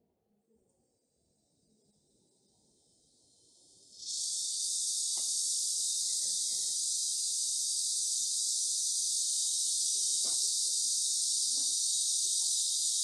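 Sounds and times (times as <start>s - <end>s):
insects buzzing: 1.7s - 13.0s.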